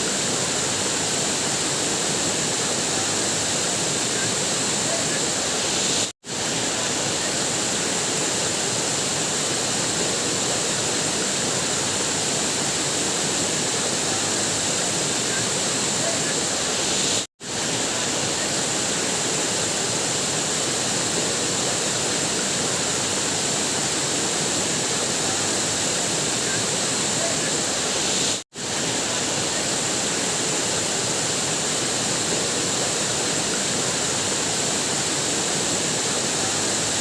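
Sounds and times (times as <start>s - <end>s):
waterfall rushing and splashing: 0.0s - 37.0s.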